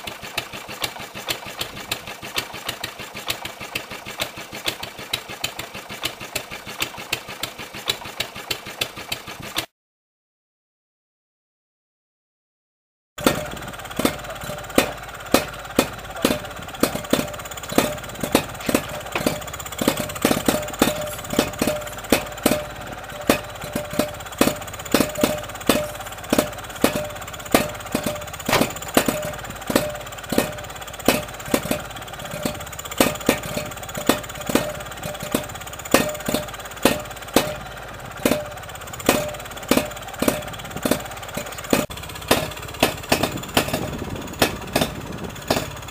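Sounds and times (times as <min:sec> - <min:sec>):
stationary engine running: 0:00.0 - 0:09.7, 0:13.2 - 0:45.9.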